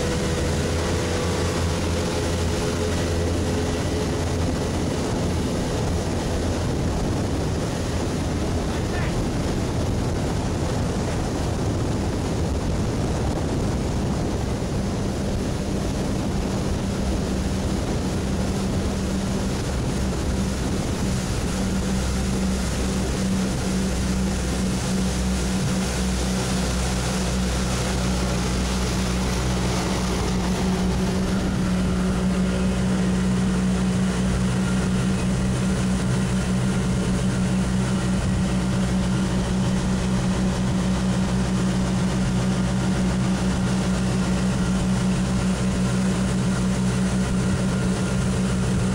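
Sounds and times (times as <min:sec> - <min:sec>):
boat engine running: 0:00.0 - 0:48.9
wind and water rushing: 0:00.0 - 0:48.9.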